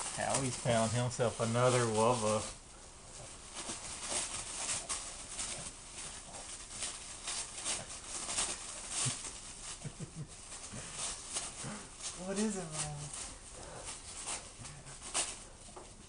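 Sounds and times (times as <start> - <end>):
wrapping paper crinkling and tearing: 0.0 - 16.0.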